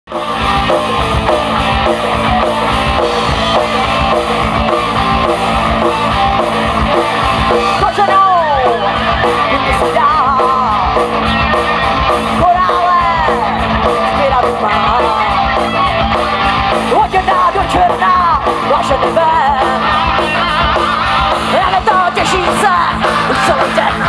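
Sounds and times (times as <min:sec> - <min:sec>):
high sliding guitar notes: 0:00.1 - 0:24.0
live rock band playing: 0:00.1 - 0:24.0.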